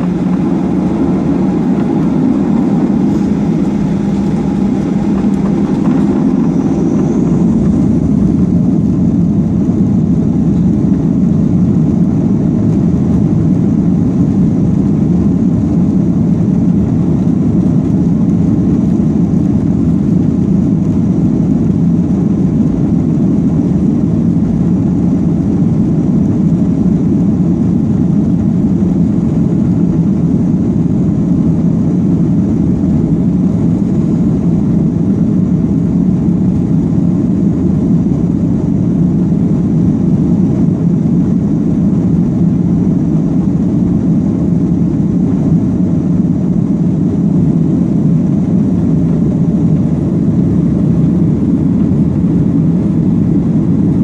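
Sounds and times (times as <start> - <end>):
jet engines and wheels rumbling: 0.0 - 54.0.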